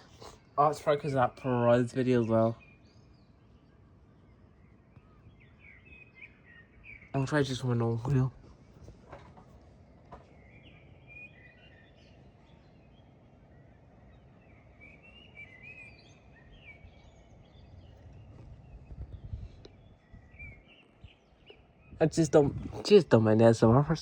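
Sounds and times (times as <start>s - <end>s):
low background noise: 0.0s - 24.0s
small birds chirping: 0.0s - 24.0s.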